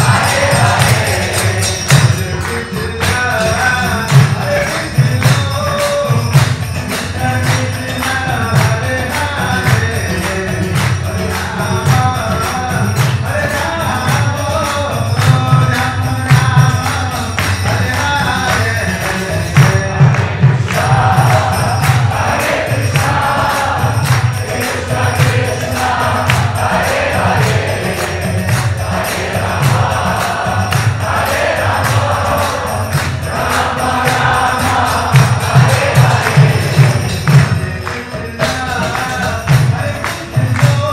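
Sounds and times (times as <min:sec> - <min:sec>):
group devotional singing: 0:00.0 - 0:06.4, 0:07.0 - 0:40.9
hand cymbals beat: 0:00.0 - 0:40.9.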